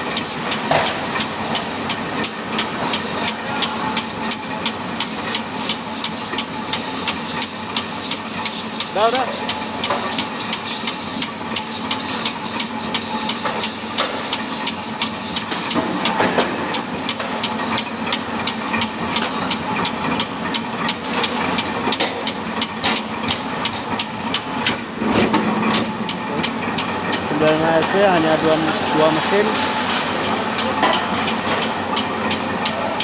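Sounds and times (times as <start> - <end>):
metal-cutting machine humming: 0.0 - 33.0.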